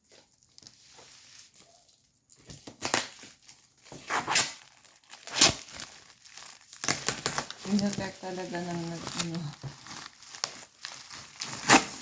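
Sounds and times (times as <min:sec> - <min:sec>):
packaging rustling: 0:00.0 - 0:12.0
packaging wrap ripping: 0:00.4 - 0:12.0.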